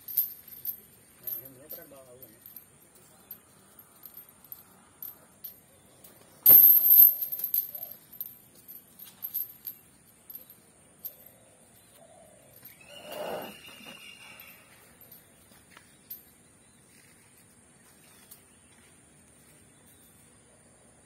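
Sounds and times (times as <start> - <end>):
faint clinks and rustles: 0.0 - 20.8.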